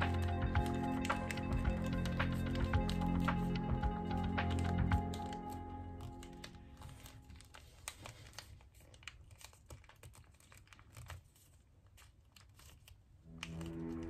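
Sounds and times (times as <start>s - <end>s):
paper rustling while folded: 0.0s - 14.0s.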